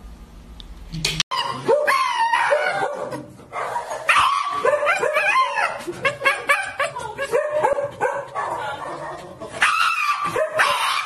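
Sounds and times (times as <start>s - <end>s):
dog screaming and yelping: 1.3s - 11.0s.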